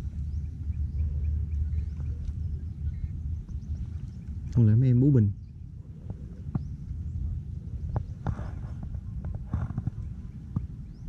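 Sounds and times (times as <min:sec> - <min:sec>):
faint bird chirps: 0:00.0 - 0:11.0
steady low rumble: 0:00.0 - 0:11.0.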